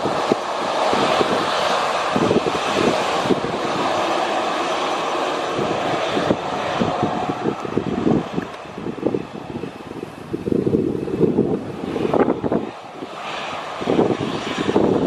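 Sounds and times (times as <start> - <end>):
jet engines running: 0.0 - 15.0
wind buffeting microphone: 0.0 - 15.0.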